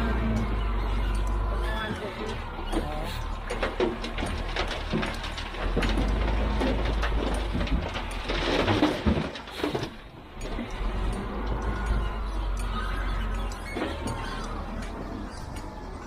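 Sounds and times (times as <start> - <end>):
heavy machine engine rumbling: 0.0 - 16.0
knocks and clatter: 0.0 - 16.0.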